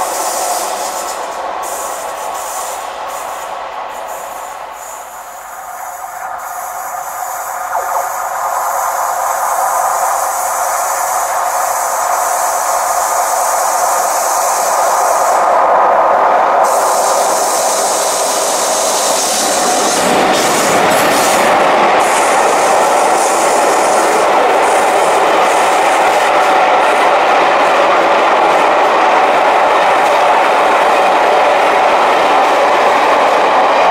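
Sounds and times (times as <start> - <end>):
diesel train approaching: 0.0 - 33.9.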